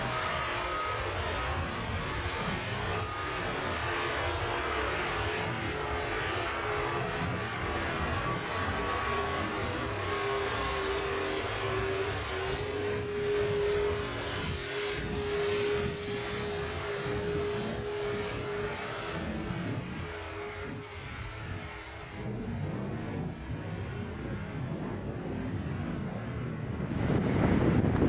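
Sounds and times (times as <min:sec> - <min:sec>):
held hum-like tone: 0:00.0 - 0:28.0
jet engines rushing: 0:00.0 - 0:28.0.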